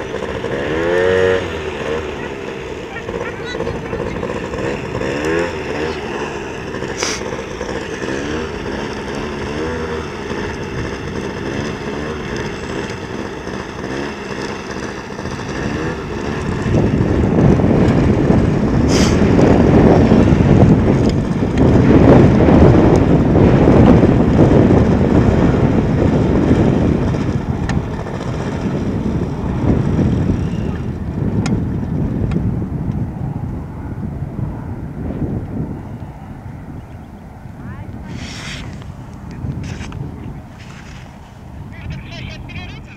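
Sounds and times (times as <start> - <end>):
motor running with wavering pitch: 0.0 - 40.8
wind buffeting on microphone: 0.0 - 42.9.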